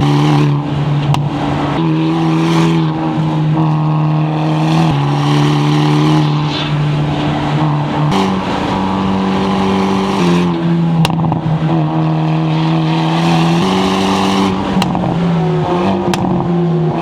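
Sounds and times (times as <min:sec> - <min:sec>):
car engine running hard: 0:00.0 - 0:17.0
exhaust cracks: 0:00.0 - 0:17.0.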